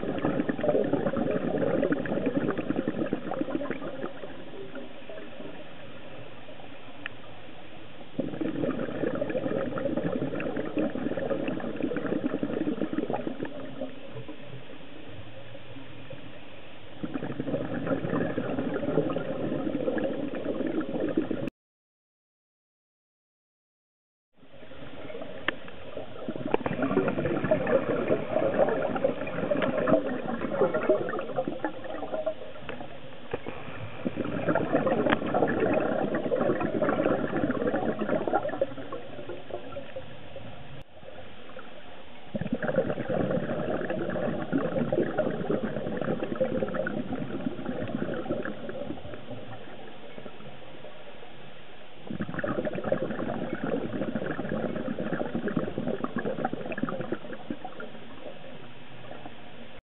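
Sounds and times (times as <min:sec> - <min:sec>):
underwater bubbles gurgling: 0:00.0 - 0:21.5, 0:24.5 - 0:59.8.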